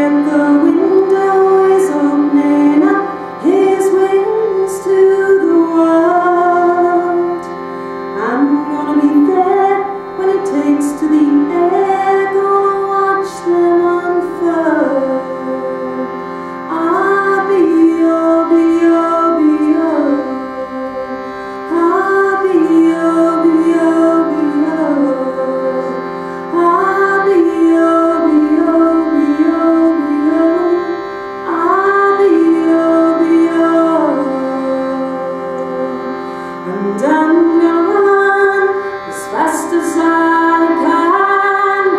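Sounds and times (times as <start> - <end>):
woman singing slow melody: 0.0 - 7.6, 8.2 - 41.9
shruti box drone: 0.0 - 41.9.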